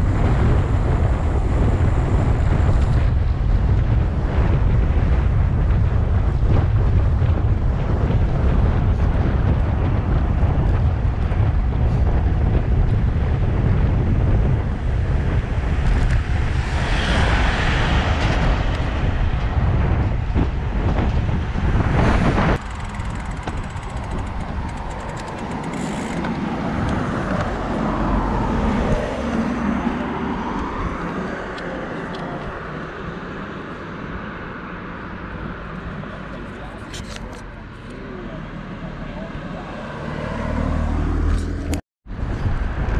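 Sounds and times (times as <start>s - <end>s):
road traffic: 0.0s - 42.9s
wind rushing over microphone: 0.0s - 42.9s.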